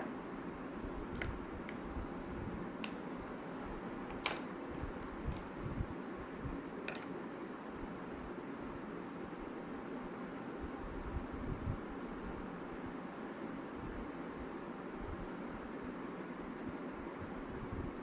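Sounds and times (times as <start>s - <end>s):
low room noise: 0.0s - 18.0s.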